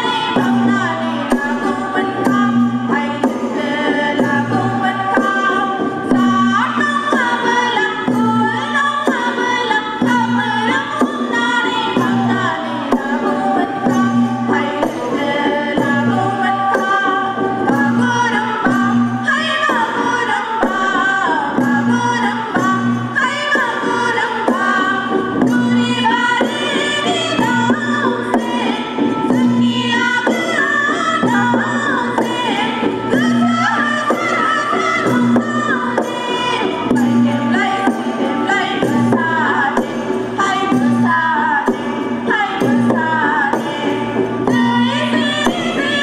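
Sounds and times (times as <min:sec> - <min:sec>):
percussion beat: 0:00.0 - 0:46.0.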